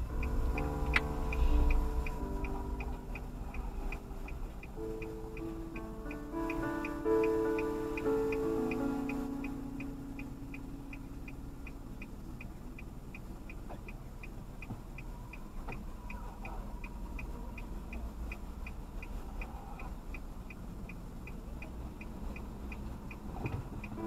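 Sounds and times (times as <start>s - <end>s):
low car cabin rumble: 0.0s - 24.0s
turn signal ticking: 0.0s - 24.0s.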